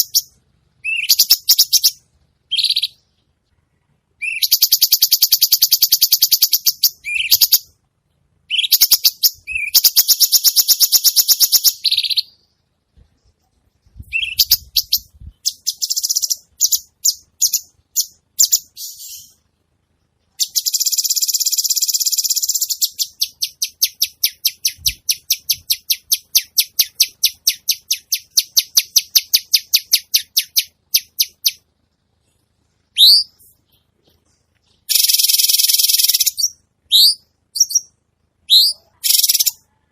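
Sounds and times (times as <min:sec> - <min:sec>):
songbird buzzy trills: 0:00.0 - 0:39.7.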